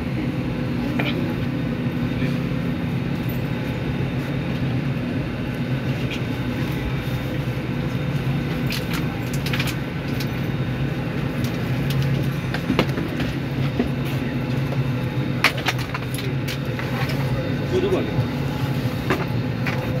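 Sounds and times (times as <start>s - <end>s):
cabin ventilation drone: 0.0s - 20.0s.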